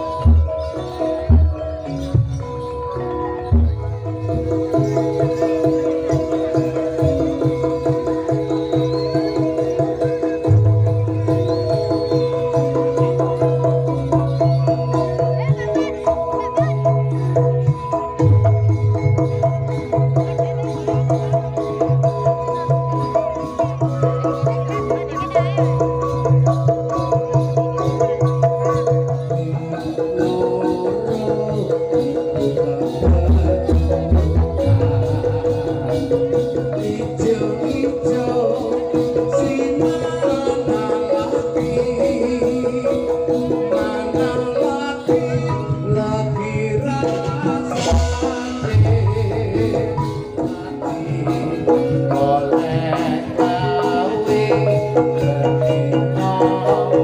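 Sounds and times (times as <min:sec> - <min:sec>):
held melody line: 0:00.0 - 0:57.0
metal mallet percussion: 0:00.0 - 0:57.0
fast drum rhythm: 0:03.5 - 0:57.0.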